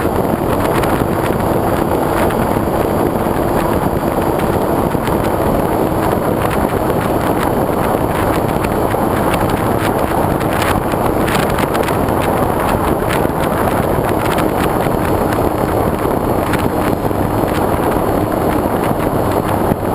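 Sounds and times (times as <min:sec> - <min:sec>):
model plane motor and propeller: 0:00.0 - 0:19.9
wind rushing over microphone: 0:00.0 - 0:19.9.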